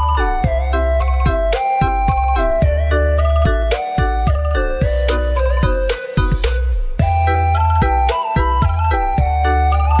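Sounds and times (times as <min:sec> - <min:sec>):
upbeat synth music with bass: 0:00.0 - 0:10.0.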